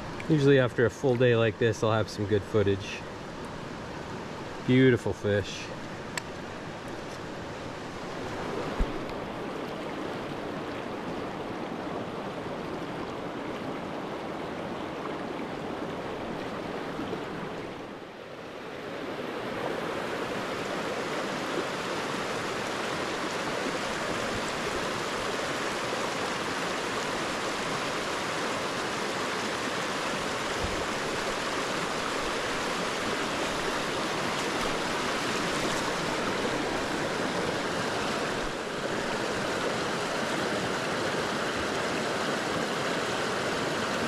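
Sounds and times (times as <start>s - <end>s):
creek running over rocks: 0.0s - 18.1s, 19.0s - 44.0s.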